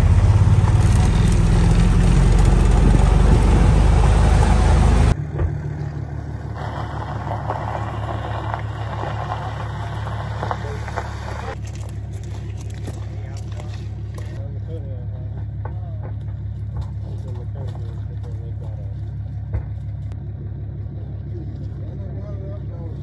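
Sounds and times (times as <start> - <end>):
pickup truck engine hum: 0.0 - 23.0
tyres driving on gravel: 0.0 - 23.0
utility vehicle engine running: 0.0 - 23.0.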